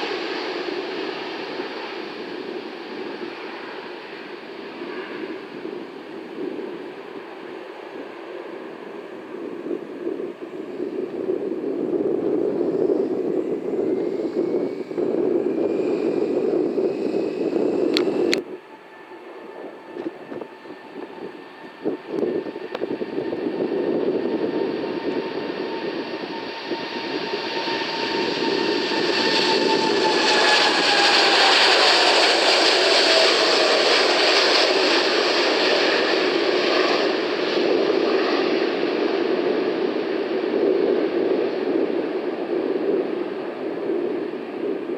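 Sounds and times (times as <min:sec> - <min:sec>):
jet engine whine: 0:00.0 - 0:44.9
jet engines rumbling: 0:00.0 - 0:44.9.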